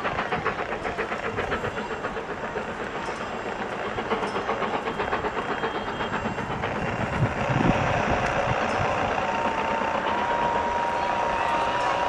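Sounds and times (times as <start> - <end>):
steam train running: 0.0 - 12.0.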